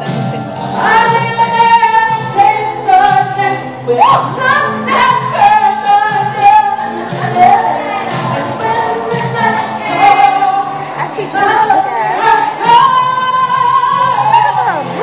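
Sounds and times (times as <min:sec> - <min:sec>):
backing music: 0:00.0 - 0:15.0
girl singing: 0:00.8 - 0:15.0.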